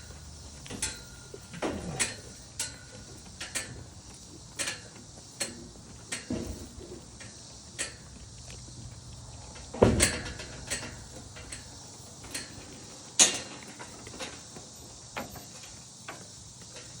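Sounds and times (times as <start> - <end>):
goats bumping against gate: 0.1 - 8.1, 9.6 - 16.2.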